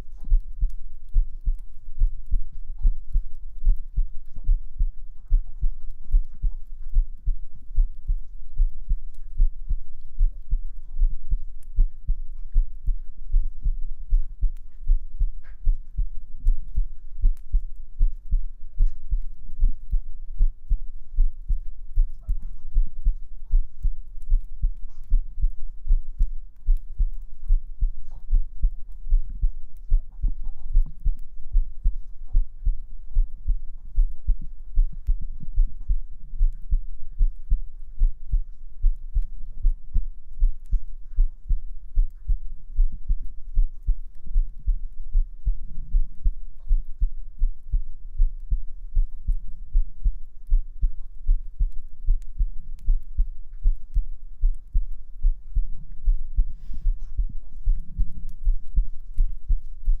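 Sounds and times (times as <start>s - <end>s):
heartbeat thumps: 0.0s - 60.0s.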